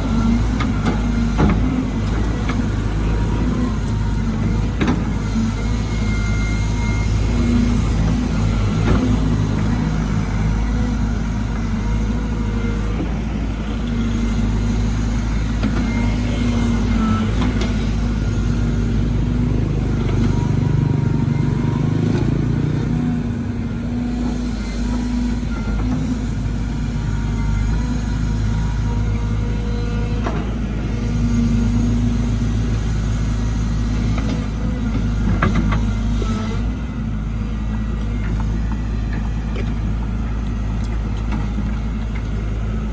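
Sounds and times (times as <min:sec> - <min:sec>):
excavator diesel engine: 0:00.0 - 0:42.9
hydraulics whining: 0:00.0 - 0:42.9.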